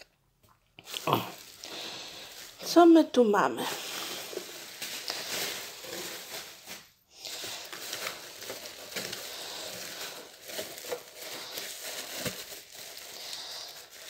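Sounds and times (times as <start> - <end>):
bubble wrap crinkling: 0.8 - 14.0.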